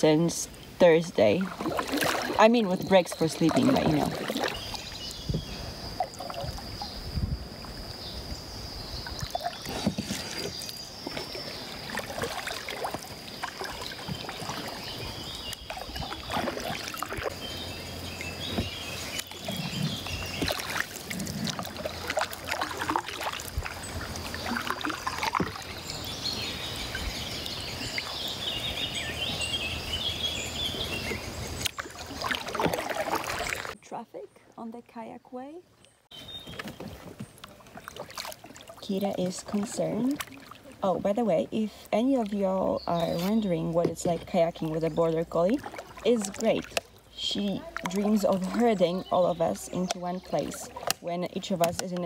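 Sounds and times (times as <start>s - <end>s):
paddle splashing in water: 0.0s - 7.9s, 9.0s - 33.8s, 36.1s - 52.0s
birds chirping: 0.0s - 52.0s.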